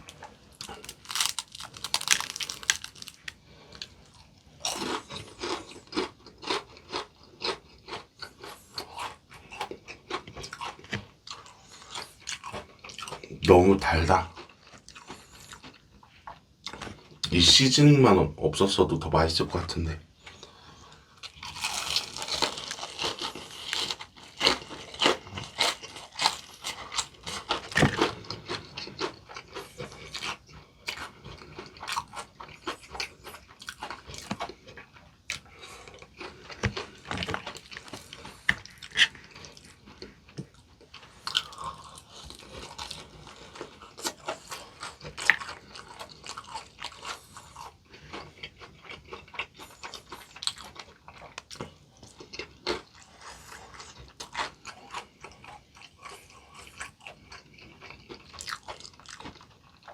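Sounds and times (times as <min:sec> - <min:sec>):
crunching and chewing fried chicken: 0:00.0 - 0:18.0, 0:19.4 - 0:59.9.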